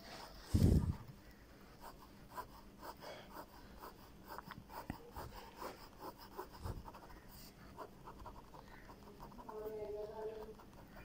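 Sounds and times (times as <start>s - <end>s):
pen scratching on paper: 1.8s - 11.0s.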